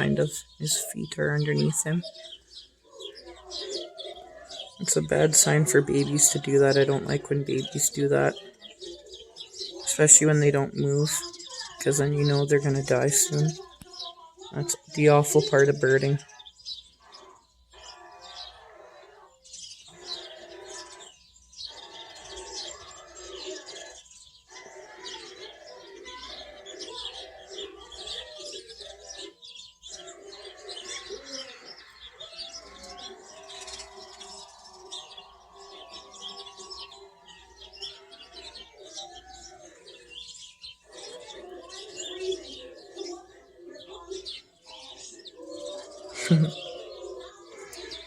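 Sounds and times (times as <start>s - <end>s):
dove cooing: 0.0s - 13.8s, 14.6s - 48.0s
sparrows chirping: 0.0s - 48.0s.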